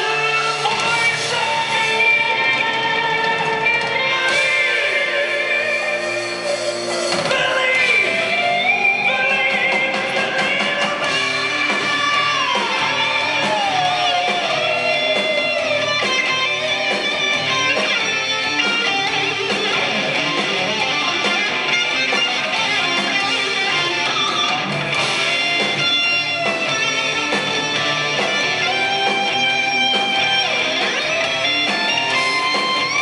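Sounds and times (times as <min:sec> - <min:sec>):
electric guitar sliding down: 0:00.0 - 0:33.0
live heavy rock band: 0:00.0 - 0:33.0.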